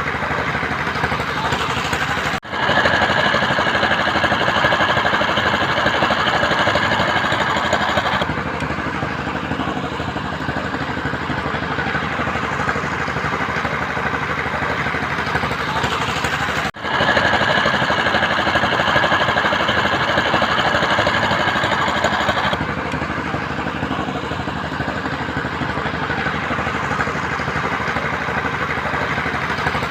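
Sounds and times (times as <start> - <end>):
machinery engine pulsing: 0.0 - 29.9.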